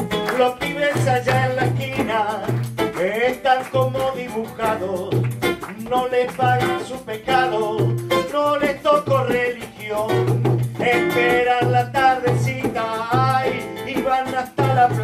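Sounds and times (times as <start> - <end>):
guitar: 0.0 - 15.0
man singing: 0.0 - 15.0
percussion beat: 0.0 - 15.0.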